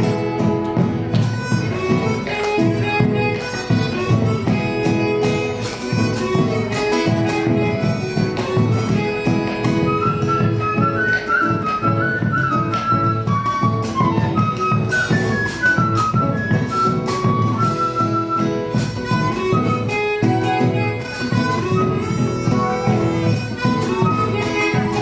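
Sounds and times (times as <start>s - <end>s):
folk band playing: 0.0s - 25.0s.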